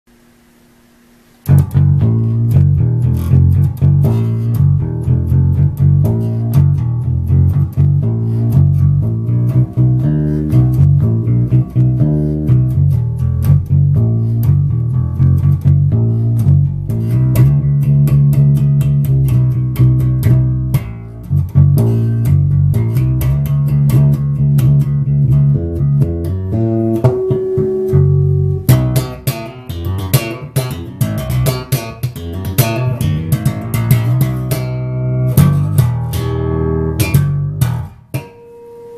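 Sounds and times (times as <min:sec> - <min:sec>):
electric bass plucked fingerstyle: 0:01.4 - 0:38.9.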